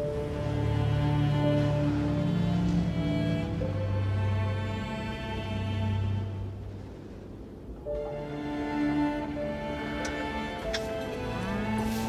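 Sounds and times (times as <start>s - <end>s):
film score music: 0.0s - 12.0s.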